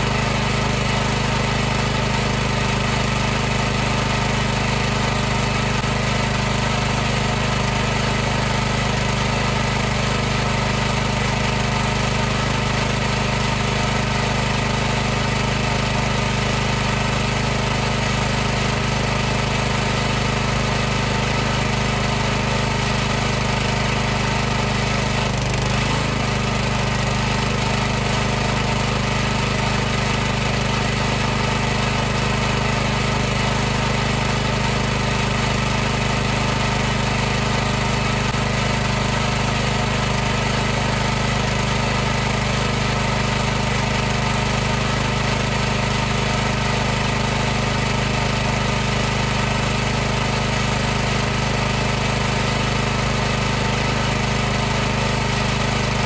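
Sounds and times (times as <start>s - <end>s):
pressure washer running: 0.0s - 56.0s.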